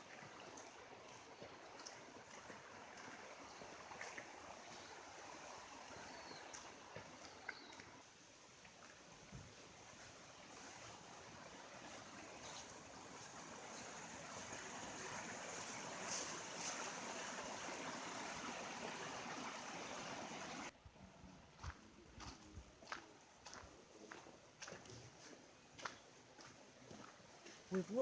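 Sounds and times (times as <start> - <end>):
stream running over stones: 0.0 - 20.7, 23.4 - 28.0.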